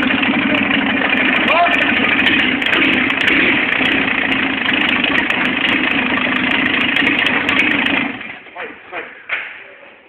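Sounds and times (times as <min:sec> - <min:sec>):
diesel engine idling: 0:00.0 - 0:09.4.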